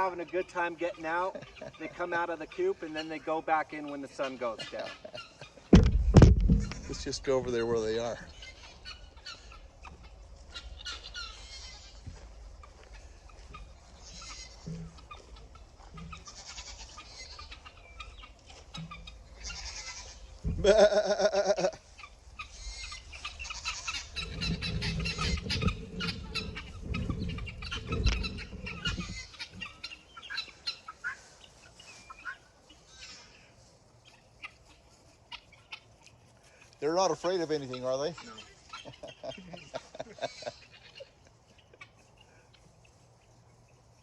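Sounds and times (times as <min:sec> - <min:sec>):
guinea fowl calling: 0:00.0 - 0:43.4.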